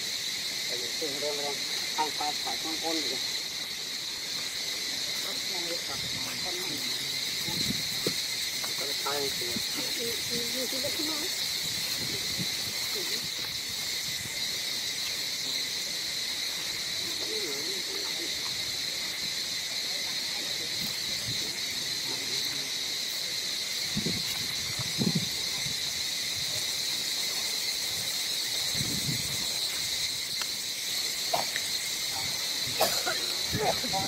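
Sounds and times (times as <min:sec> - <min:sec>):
shrill insect drone: 0:00.0 - 0:34.0.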